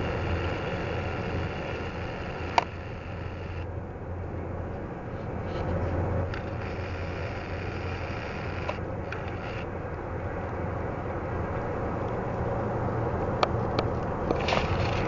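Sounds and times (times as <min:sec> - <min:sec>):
jet engines at taxi power: 0:00.0 - 0:15.0.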